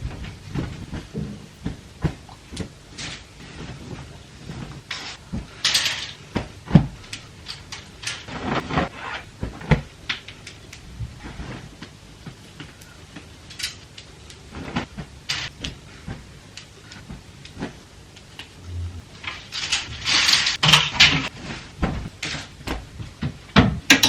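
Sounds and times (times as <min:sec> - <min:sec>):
clothes rustling: 0:00.0 - 0:17.9, 0:18.6 - 0:23.4.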